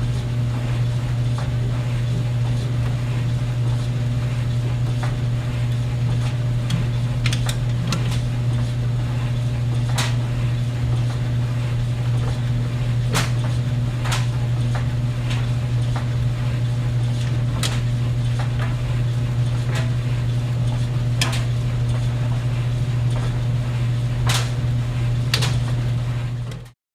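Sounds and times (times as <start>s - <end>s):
clothes dryer humming: 0.0s - 26.8s.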